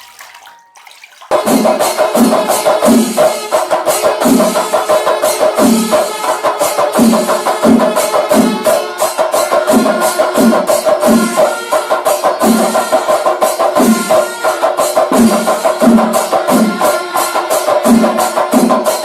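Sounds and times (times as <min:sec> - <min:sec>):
fast sharp drum strokes: 0:01.1 - 0:19.0.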